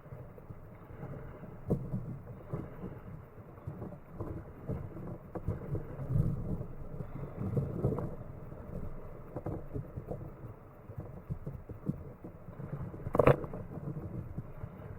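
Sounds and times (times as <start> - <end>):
wind and water rumble on microphone: 0.0 - 14.9.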